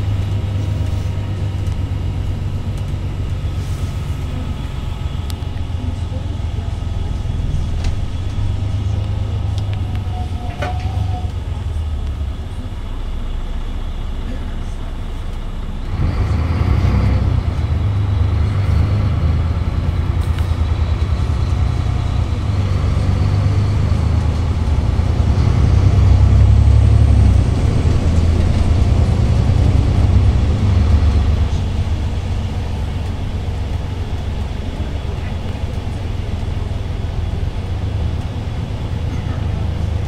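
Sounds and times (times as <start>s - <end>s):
bus diesel engine drone: 0.0s - 40.0s.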